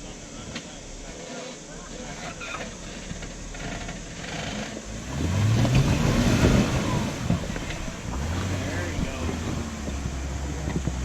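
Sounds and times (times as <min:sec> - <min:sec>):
engine revving: 0:01.9 - 0:11.0.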